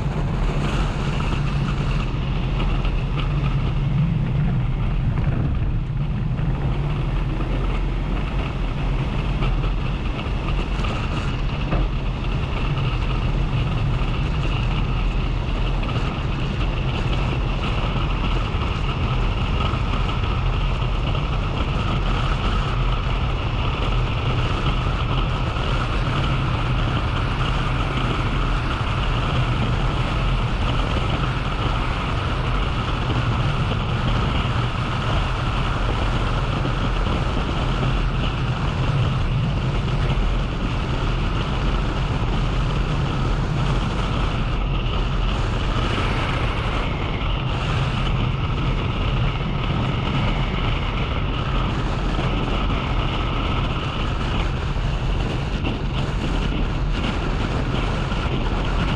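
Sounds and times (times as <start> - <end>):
vehicle engine and road noise: 0.0 - 58.9
wind rush on microphone: 0.0 - 58.9.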